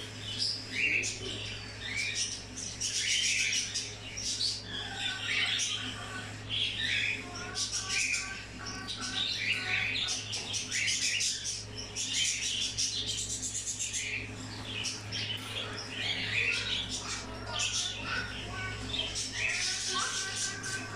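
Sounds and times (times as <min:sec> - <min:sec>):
parrots squawking and chirping: 0:00.0 - 0:20.9.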